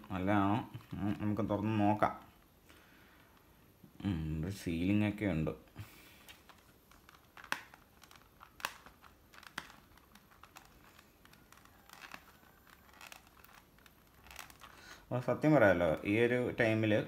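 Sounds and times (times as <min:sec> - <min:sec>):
packaging crinkling and rustling: 0:00.0 - 0:03.8, 0:05.8 - 0:16.1.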